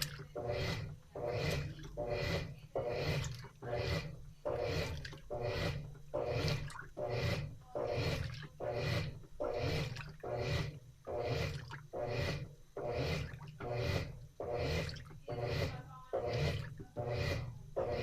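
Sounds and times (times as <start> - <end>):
washing machine water sloshing: 0.0 - 18.0.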